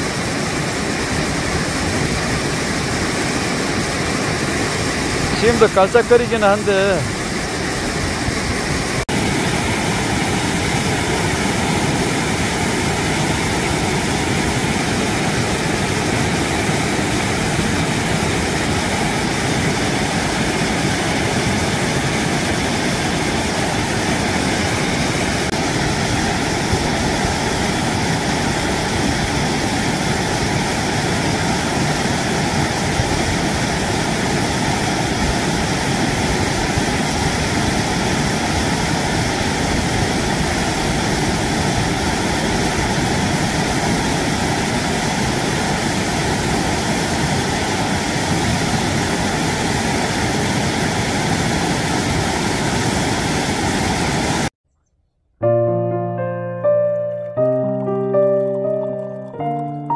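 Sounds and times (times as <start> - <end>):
waterfall rushing: 0.0 - 54.5.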